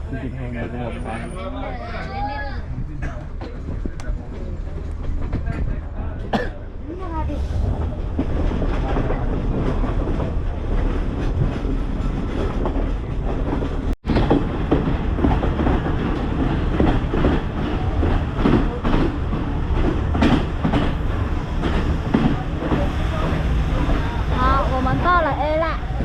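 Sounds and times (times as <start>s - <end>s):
train wheels clacking on rails: 3.0s - 26.0s.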